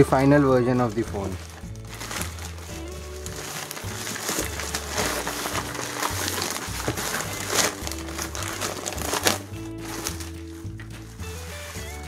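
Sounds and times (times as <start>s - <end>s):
background music: 0.0s - 12.0s
plastic bag and bubble wrap crinkling: 0.0s - 12.0s.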